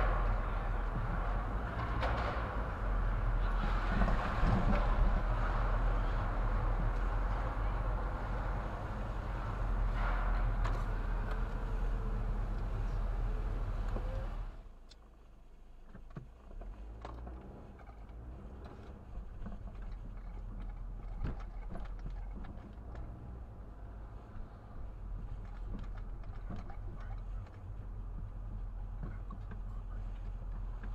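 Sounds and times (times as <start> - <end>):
road and engine noise: 0.0 - 30.9.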